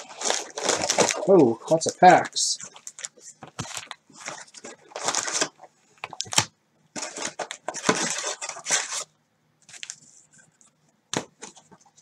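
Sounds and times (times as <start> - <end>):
cellophane packs crinkling: 0.0 - 10.1.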